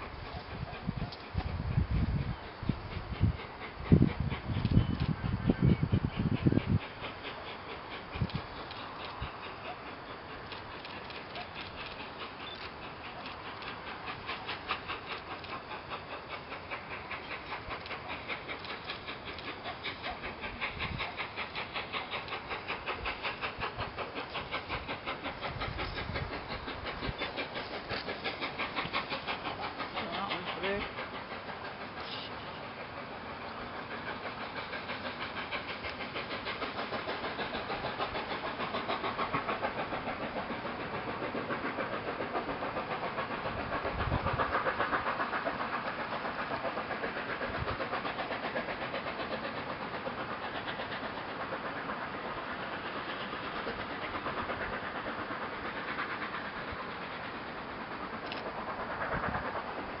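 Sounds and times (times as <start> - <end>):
train wheels clattering on rails: 0.0 - 60.0.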